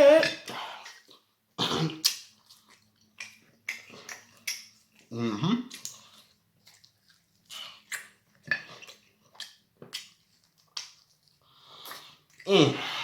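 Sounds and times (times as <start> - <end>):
wet chewing smacks: 1.9 - 12.5.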